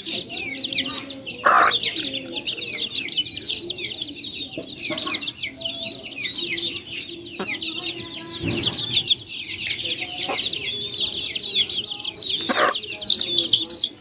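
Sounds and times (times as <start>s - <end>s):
chicks peeping: 0.0s - 14.0s
hen clucking: 0.0s - 14.0s.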